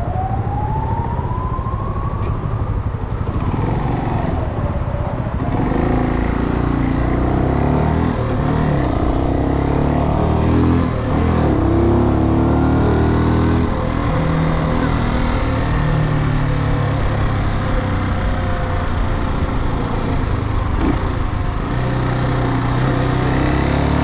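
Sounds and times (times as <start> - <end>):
traffic noise: 0.0 - 24.0
wind: 0.0 - 24.0
motorcycle engine running: 2.9 - 24.0.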